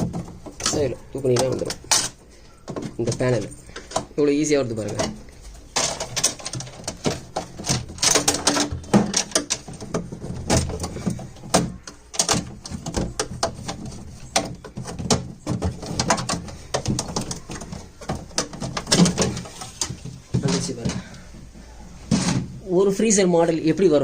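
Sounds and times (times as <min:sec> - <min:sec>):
plastic panels clicking and rattling: 0:00.0 - 0:21.5, 0:22.1 - 0:22.6.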